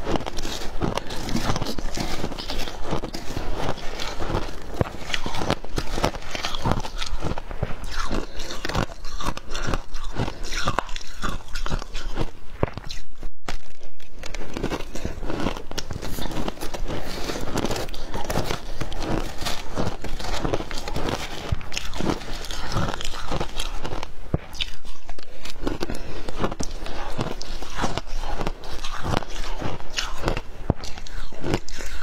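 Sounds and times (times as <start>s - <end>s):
chewing crunchy ice: 0.0s - 32.0s.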